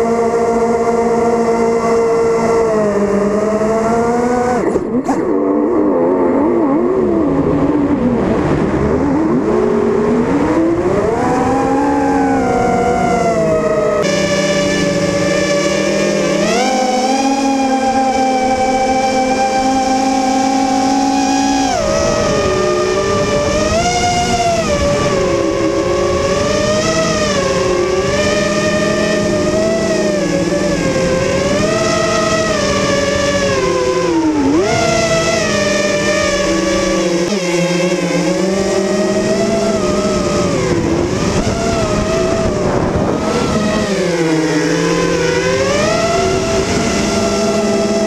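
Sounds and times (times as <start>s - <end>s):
quadcopter motors whining: 0.0s - 48.0s
wind noise: 1.8s - 48.0s.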